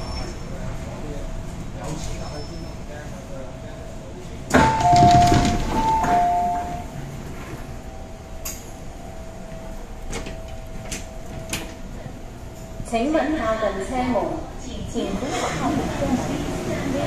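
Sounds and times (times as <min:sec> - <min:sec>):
train faint steady hum: 0:00.0 - 0:17.0.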